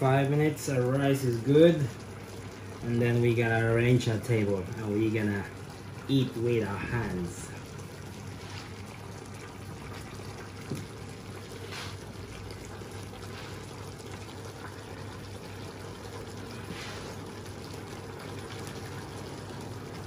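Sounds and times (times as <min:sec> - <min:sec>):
sauce bubbling and sizzling in pan: 0:00.0 - 0:20.0.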